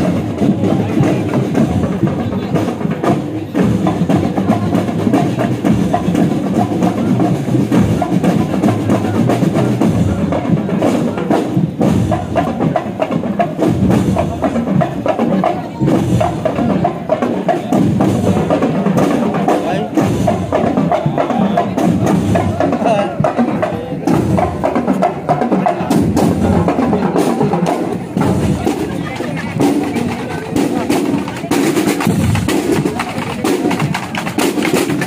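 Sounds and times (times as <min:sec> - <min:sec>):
drum line playing cadence: 0:00.0 - 0:35.0.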